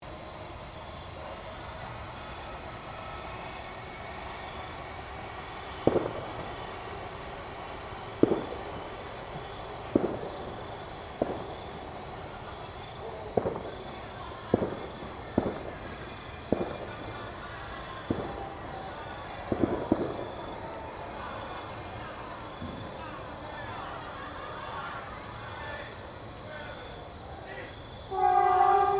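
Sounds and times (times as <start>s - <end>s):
crickets chirping: 0.0s - 28.9s
distant fireworks bangs: 0.3s - 24.4s, 28.1s - 28.9s.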